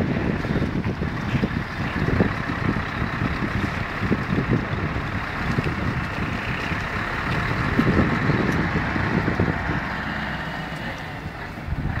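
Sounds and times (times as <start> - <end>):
heavy diesel truck engines: 0.0 - 12.0.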